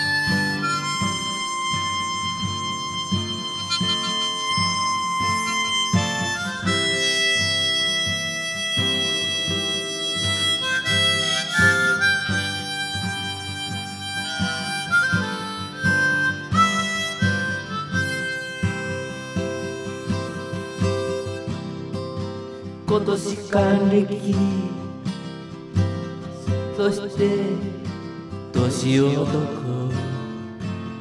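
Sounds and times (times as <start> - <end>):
blues harmonica solo: 0.0 - 23.9, 24.7 - 26.8
rhythmic guitar accompaniment: 0.0 - 31.0.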